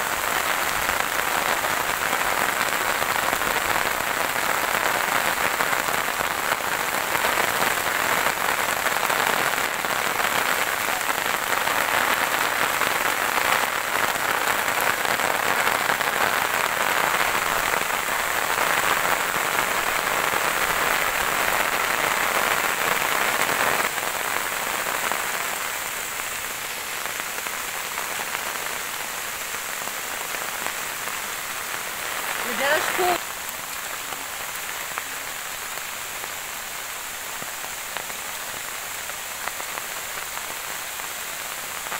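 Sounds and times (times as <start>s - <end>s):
rain on leafy plants: 0.0s - 41.9s.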